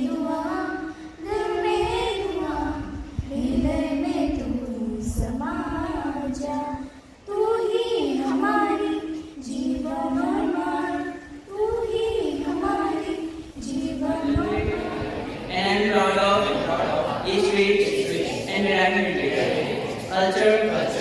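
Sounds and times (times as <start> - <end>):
students singing unaccompanied: 0.0 - 21.0.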